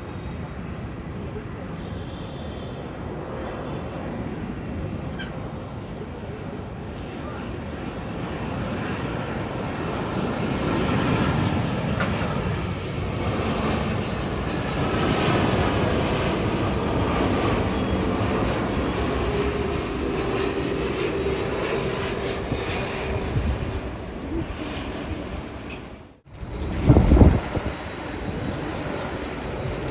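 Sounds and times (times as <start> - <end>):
airliner engines roaring overhead: 0.0 - 29.9
whining engine tones: 5.1 - 29.9.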